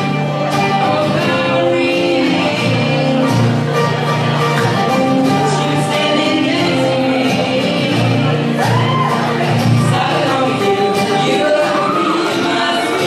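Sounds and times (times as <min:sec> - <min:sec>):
people singing together: 0:00.0 - 0:13.0
strummed acoustic guitar: 0:00.0 - 0:13.0.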